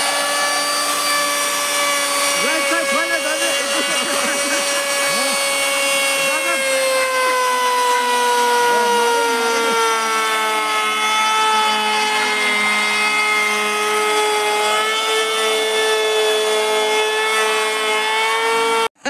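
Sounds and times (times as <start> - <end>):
router whining cutting wood: 0.0 - 19.0.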